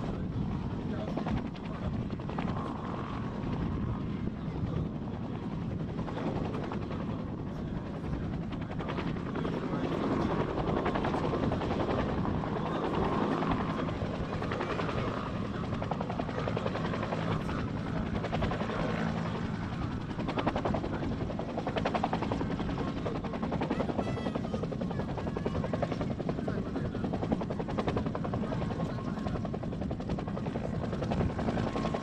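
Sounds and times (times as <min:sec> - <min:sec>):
helicopter rotor chopping: 0:00.0 - 0:32.0.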